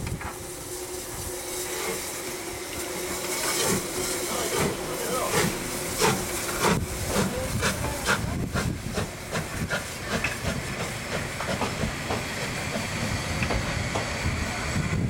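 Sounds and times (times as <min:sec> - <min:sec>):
hissing steam: 0:00.0 - 0:15.0
steam locomotive exhaust beats: 0:00.0 - 0:15.0.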